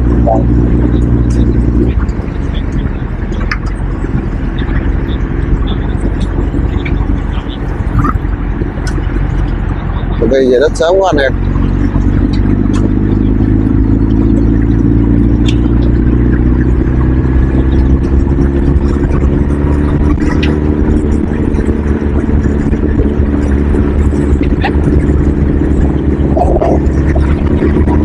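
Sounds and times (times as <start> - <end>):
low rumble of travel: 0.0 - 28.0
vehicle engine running: 0.0 - 28.0.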